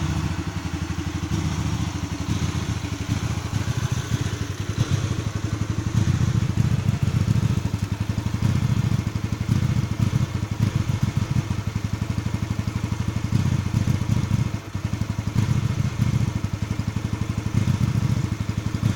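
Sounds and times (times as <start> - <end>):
motorcycle engine idling roughly: 0.0 - 18.9.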